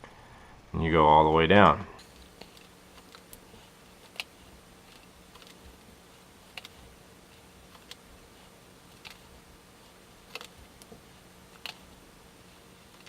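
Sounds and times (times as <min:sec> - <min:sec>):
steady low hum: 0:00.0 - 0:13.0
hands tying cord clicking: 0:02.0 - 0:13.0.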